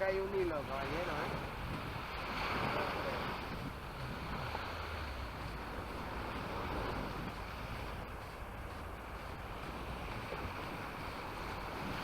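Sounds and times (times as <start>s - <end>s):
sea surf washing on beach: 0.0s - 12.0s
wind buffeting microphone: 0.0s - 12.0s.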